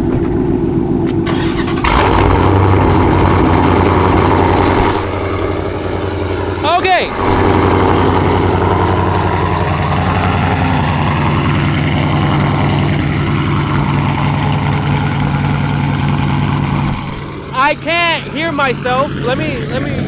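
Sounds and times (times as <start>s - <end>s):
car engine idling unevenly: 0.0s - 20.0s.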